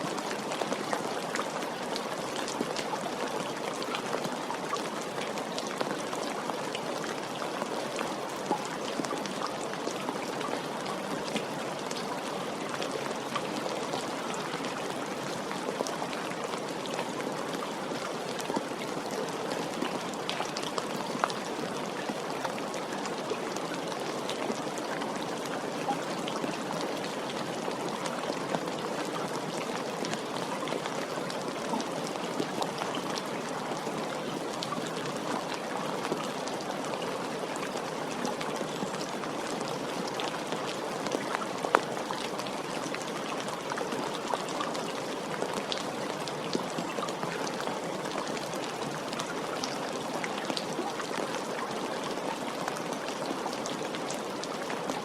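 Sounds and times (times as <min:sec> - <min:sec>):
gentle rain falling: 0:00.0 - 0:55.0
raindrops ticking on surfaces: 0:00.0 - 0:55.0.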